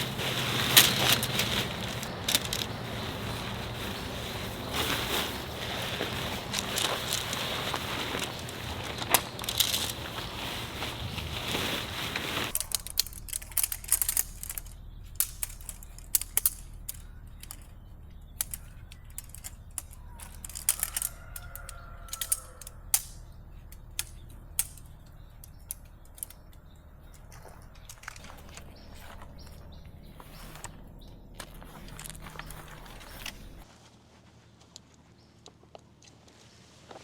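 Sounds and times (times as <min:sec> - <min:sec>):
tent poles and clips clicking: 0:00.0 - 0:33.7.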